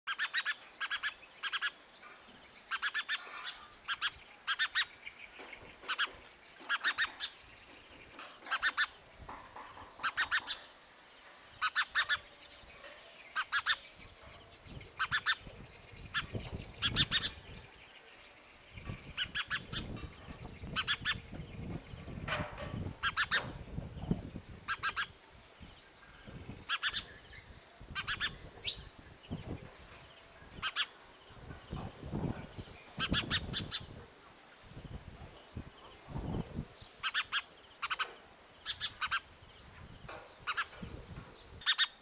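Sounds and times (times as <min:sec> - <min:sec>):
songbird chirping: 0:00.1 - 0:42.0.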